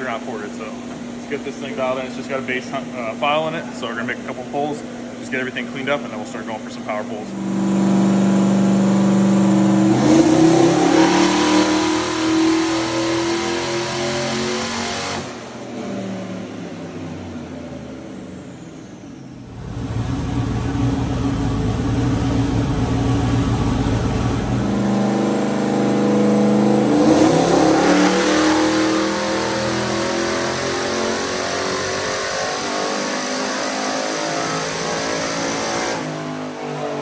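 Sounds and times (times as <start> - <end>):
engine revving on dyno: 7.2 - 37.0.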